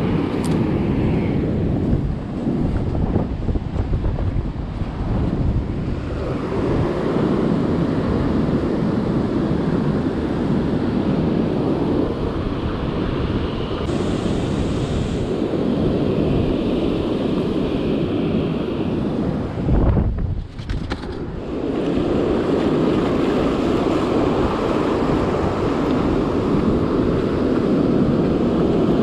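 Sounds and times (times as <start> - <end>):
ocean surf breaking: 0.0 - 19.8, 20.9 - 29.0
wind buffeting microphone: 0.0 - 29.0.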